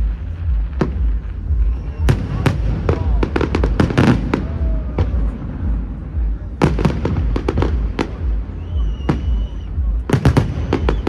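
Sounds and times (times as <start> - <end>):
fireworks bangs: 0.0 - 11.0
low rumble: 0.0 - 11.0.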